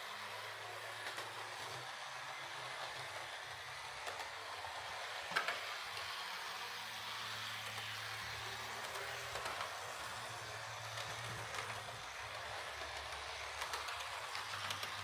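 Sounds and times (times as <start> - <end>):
model train motor humming: 0.0 - 15.0
model train track clicks: 0.6 - 15.0.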